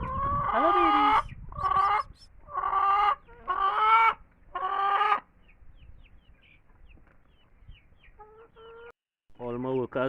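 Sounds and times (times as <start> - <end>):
hens calling: 0.0 - 8.9.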